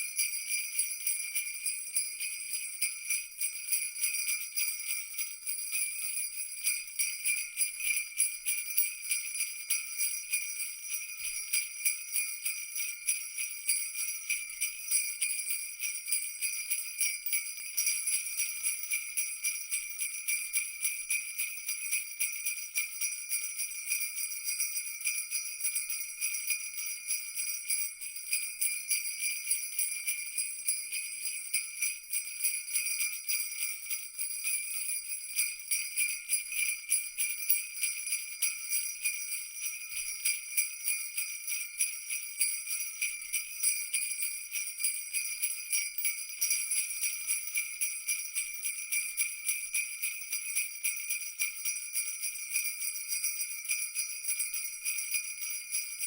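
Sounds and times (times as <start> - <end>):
sleigh bells jingling: 0.0 - 56.0.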